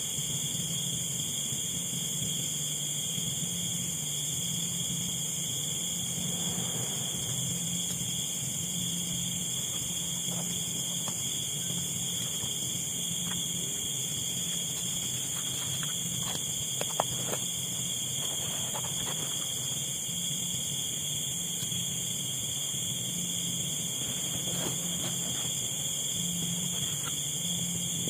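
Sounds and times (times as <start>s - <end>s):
insects trilling: 0.0s - 28.0s
low pulsing hum: 0.0s - 28.0s.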